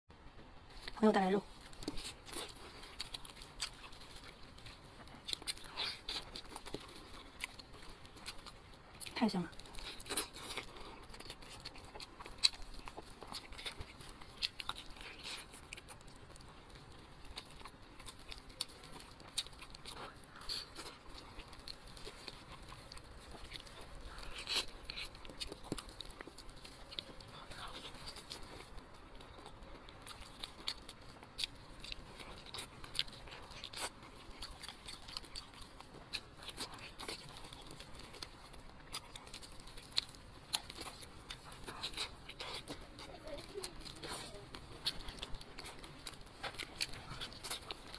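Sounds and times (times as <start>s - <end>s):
wet chewing clicks and smacks: 0.7s - 47.9s.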